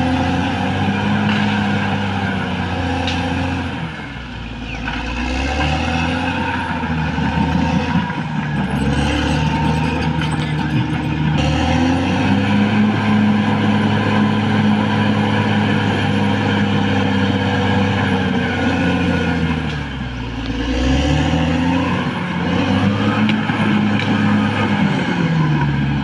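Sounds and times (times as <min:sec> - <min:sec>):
bulldozer diesel engine at high revs: 0:00.0 - 0:26.0.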